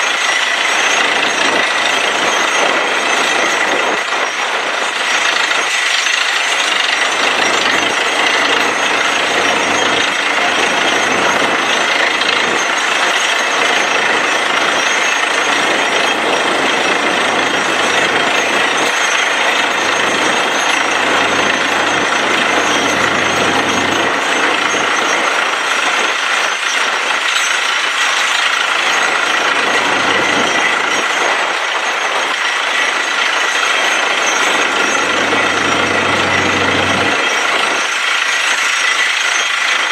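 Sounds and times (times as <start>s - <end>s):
air compressor: 0.0s - 39.9s
drilling rig engine: 0.0s - 39.9s.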